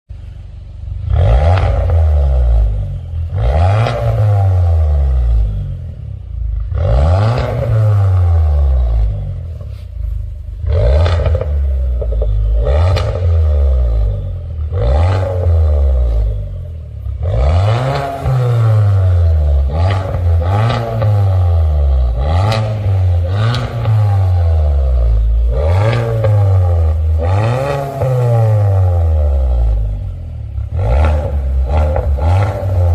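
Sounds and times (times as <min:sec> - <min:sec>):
car engine revving: 0:00.1 - 0:32.9.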